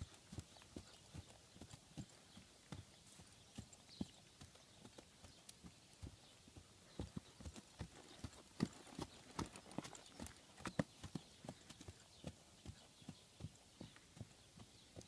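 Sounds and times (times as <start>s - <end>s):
horse hoofbeats on hard ground: 0.0s - 15.0s.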